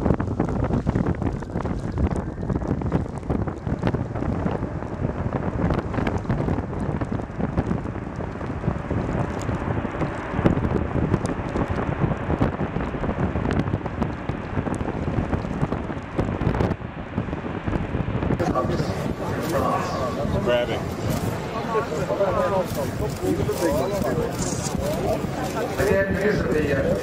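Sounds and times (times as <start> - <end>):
scattered crackles: 0.0 - 27.0
strong wind buffeting microphone: 0.0 - 27.0.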